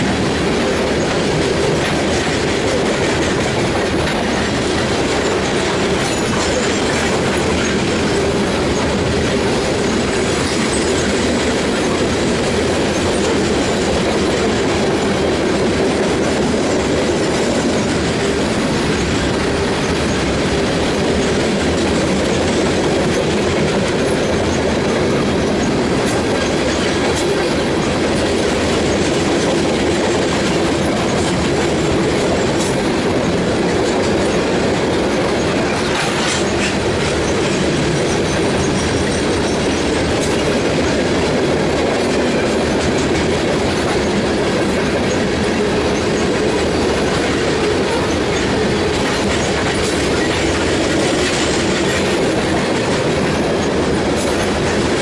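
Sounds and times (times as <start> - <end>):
steel wheels rolling on rails: 0.0 - 55.0.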